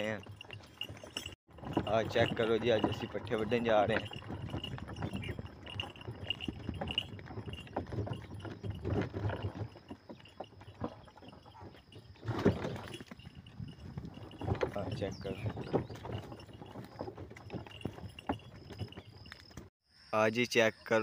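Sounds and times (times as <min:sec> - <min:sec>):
wooden cart rattling and knocking: 0:00.0 - 0:19.7.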